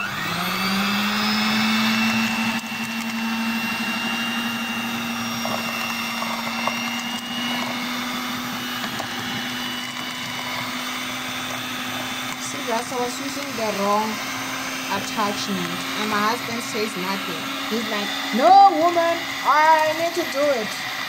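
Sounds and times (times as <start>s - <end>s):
electric hand mixer whining: 0.0s - 21.0s.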